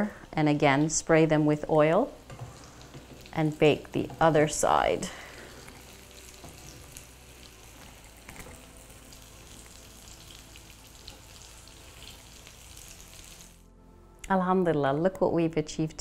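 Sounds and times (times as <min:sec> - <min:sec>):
patties sizzling in oil: 0:00.0 - 0:13.7.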